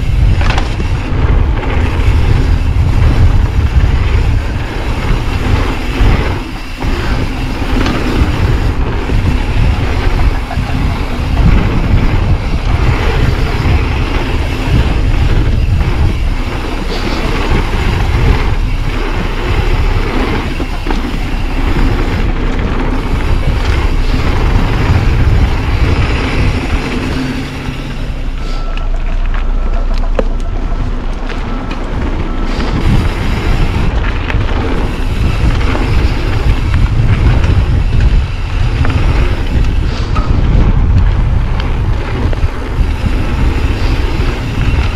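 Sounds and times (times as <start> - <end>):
bike knocks and rattles: 0.0 - 28.3, 28.9 - 44.9
bike tyre roar: 0.0 - 44.9
wind buffeting microphone: 0.0 - 44.9.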